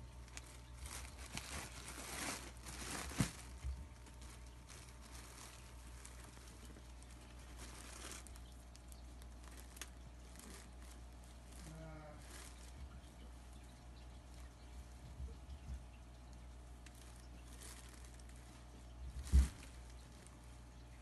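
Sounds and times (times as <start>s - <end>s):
plastic bag crinkling: 0.0s - 15.3s, 16.0s - 21.0s.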